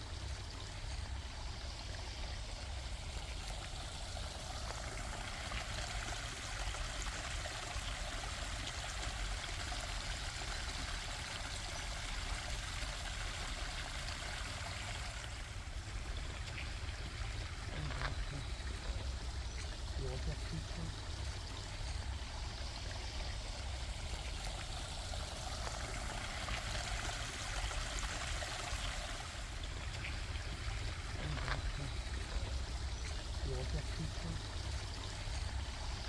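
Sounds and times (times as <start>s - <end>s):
running water: 0.0s - 36.0s.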